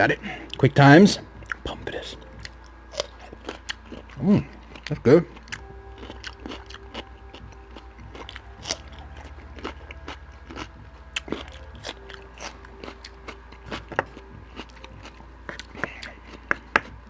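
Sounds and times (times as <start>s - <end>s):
close chewing with wet smacks: 1.3s - 17.0s.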